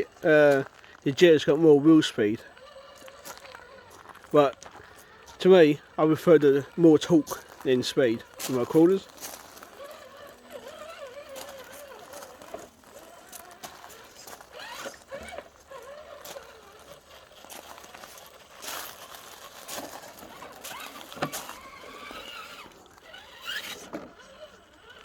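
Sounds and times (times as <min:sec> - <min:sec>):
electric motor and gearbox whining: 0:00.0 - 0:25.0.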